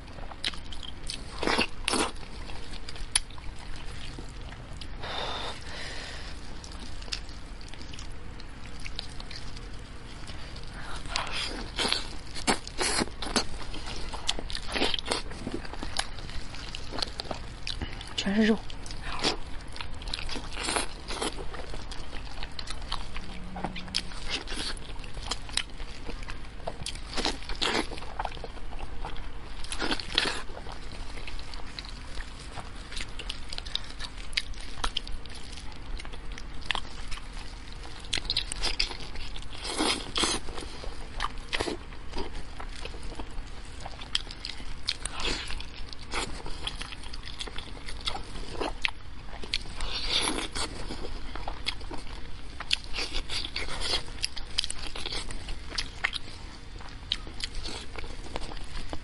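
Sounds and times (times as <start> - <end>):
chewing and wet smacking: 0.0 - 59.0.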